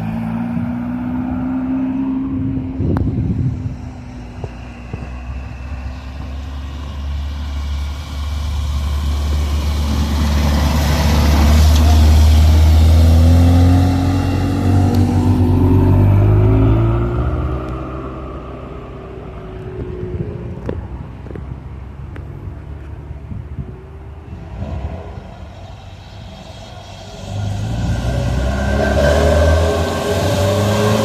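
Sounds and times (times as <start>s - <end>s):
car engine and exhaust passing: 0.0s - 31.0s.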